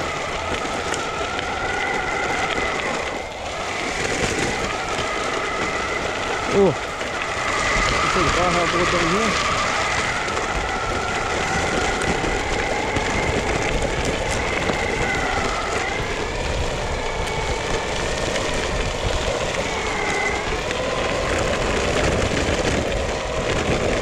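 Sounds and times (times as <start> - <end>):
electric motors whining: 0.0 - 24.0
tyres rolling on gravel: 0.0 - 24.0.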